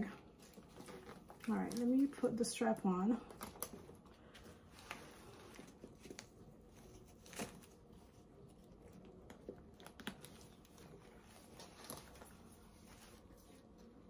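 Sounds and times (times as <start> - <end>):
soft handling rustle: 0.0 - 14.0.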